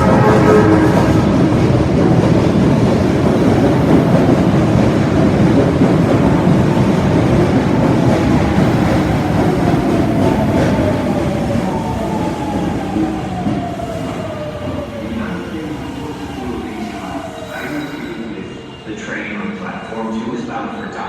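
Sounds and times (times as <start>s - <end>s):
subway wheels rumbling on rail: 0.0s - 21.0s.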